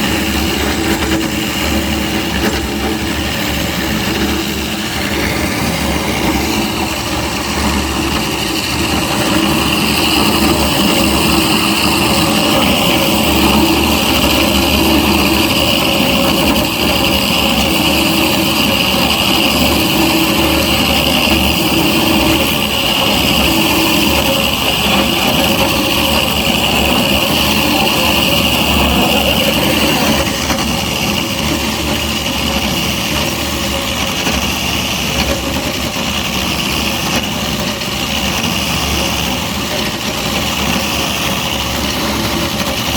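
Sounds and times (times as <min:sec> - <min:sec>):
floor grinder grinding concrete: 0:00.0 - 0:42.9.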